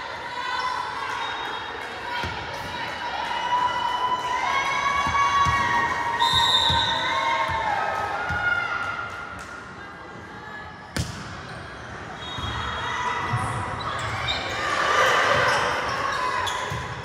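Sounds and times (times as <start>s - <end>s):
players and spectators voices: 0.0s - 17.0s
volleyball struck in echoing gym: 0.0s - 17.0s.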